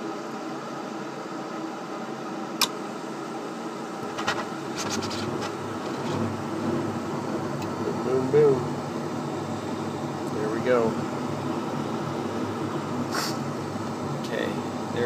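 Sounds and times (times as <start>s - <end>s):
furnace fan hum: 0.0s - 15.0s
burner lighting rumble: 2.4s - 15.0s.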